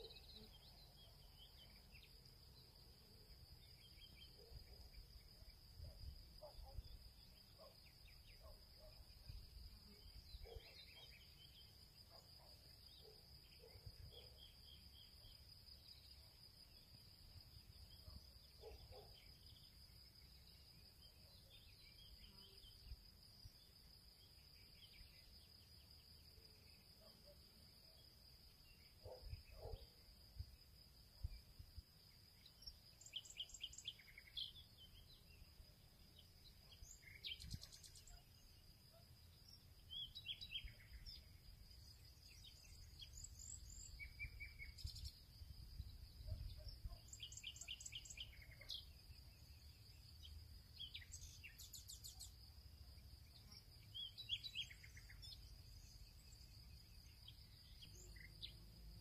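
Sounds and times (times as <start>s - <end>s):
faint chirps: 0.0s - 59.0s.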